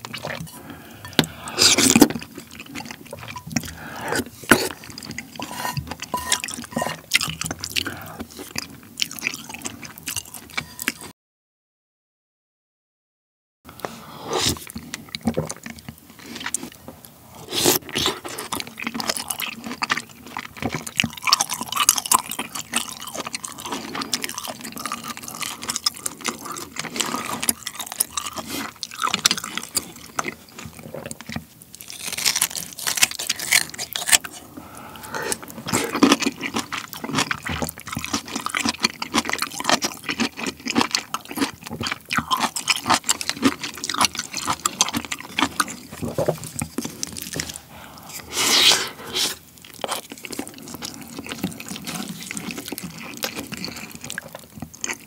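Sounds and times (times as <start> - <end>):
wet chewing mouth sounds: 0.0 - 11.1, 13.7 - 55.0.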